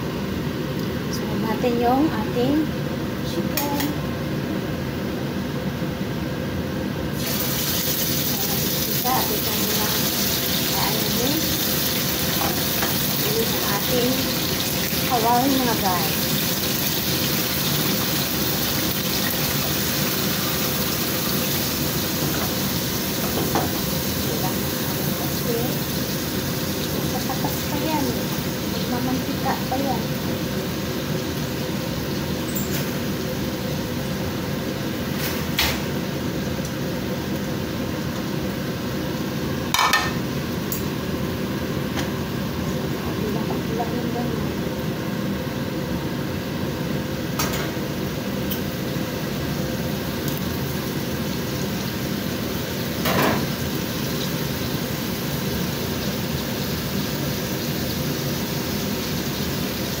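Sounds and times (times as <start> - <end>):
chicken sizzling in hot oil: 7.1 - 41.8, 45.7 - 60.0.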